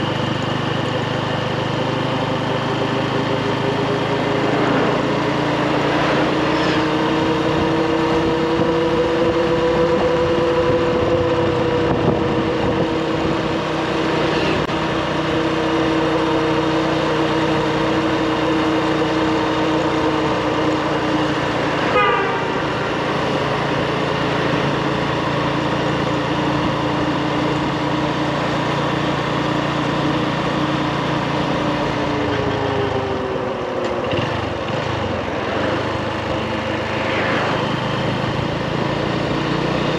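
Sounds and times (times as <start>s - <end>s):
motorbike engine droning: 0.0s - 39.9s
wind and road noise: 0.0s - 39.9s.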